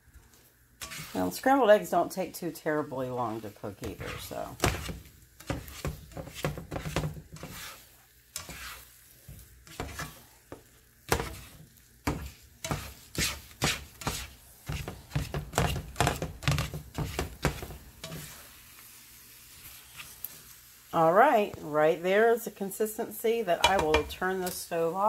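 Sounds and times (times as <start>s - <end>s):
eggs sizzling: 0.0s - 25.0s
utensil scraping frying pan: 0.3s - 20.8s, 23.6s - 25.0s.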